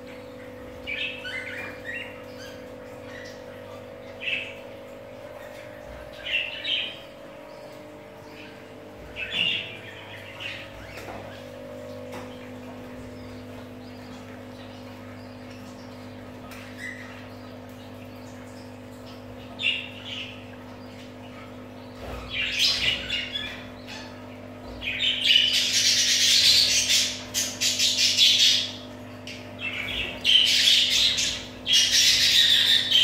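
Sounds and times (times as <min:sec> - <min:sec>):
steady low hum: 0:00.0 - 0:33.0
budgerigars chattering and squawking: 0:05.4 - 0:18.4, 0:19.1 - 0:33.0.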